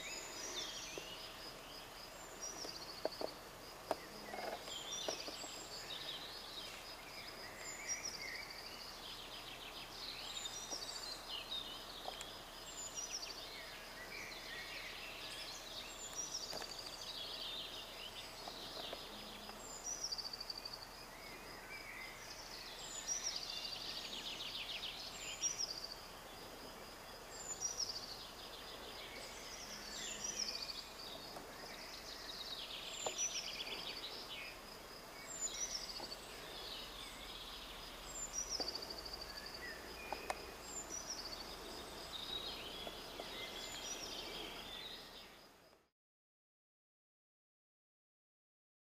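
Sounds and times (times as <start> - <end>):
songbirds singing: 0.0 - 45.8
faint outdoor hiss: 0.0 - 45.9.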